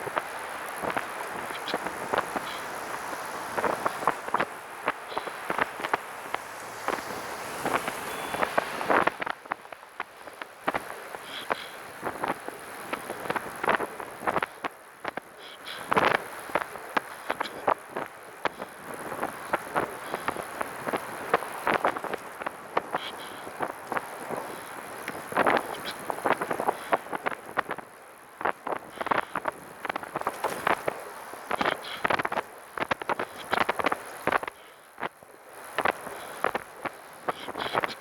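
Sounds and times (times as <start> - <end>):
wind noise on microphone: 0.0 - 38.0.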